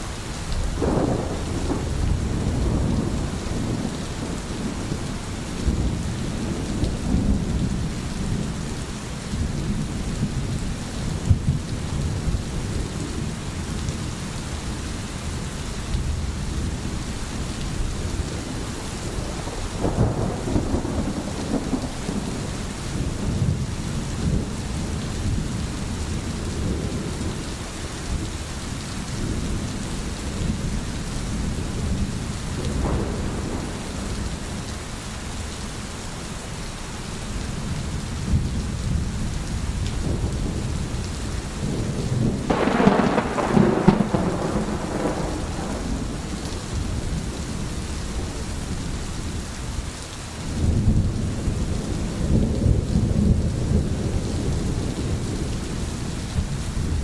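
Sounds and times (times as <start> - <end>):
steady rain: 0.0 - 57.0
rolling thunder rumbles: 0.6 - 14.1, 14.7 - 28.4, 29.0 - 34.8, 37.6 - 49.4, 50.5 - 57.0.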